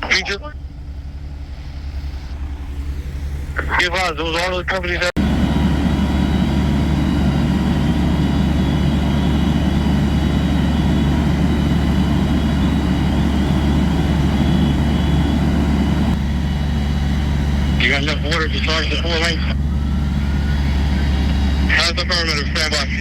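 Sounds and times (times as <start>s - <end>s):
diesel engine rumbling: 0.0s - 23.0s
faint steady whine: 0.0s - 23.0s.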